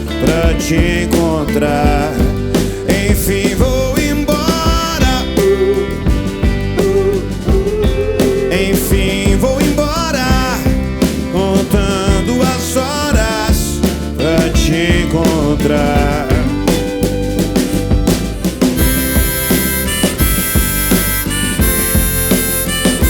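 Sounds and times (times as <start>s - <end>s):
live rock band playing: 0.0s - 23.0s
person singing: 0.0s - 23.0s.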